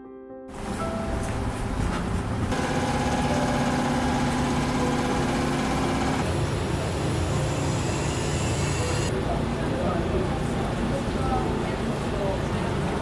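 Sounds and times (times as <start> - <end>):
workshop machinery humming: 0.5 - 13.0.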